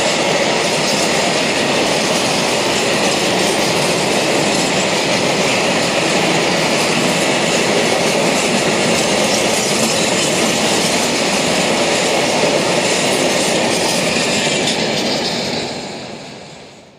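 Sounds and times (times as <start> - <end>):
steel wheels rolling on rails: 0.0 - 16.9.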